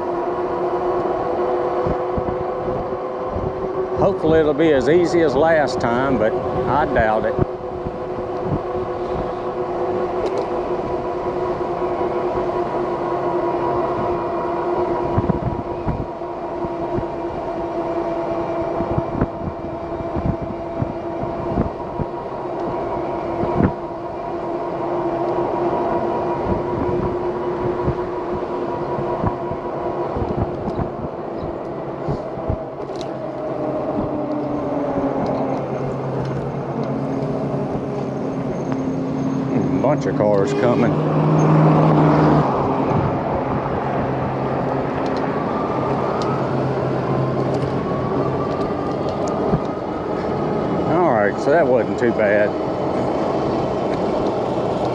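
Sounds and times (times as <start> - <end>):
road and wind rumble: 0.0 - 54.9
electric bike motor whining: 4.9 - 54.9.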